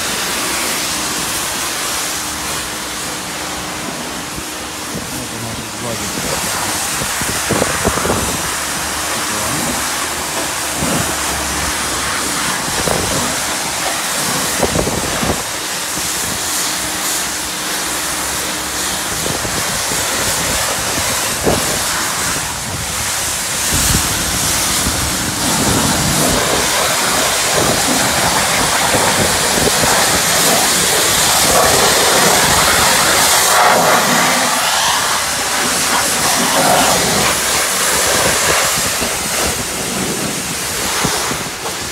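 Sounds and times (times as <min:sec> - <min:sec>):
pressure water jet hissing: 0:00.0 - 0:41.9.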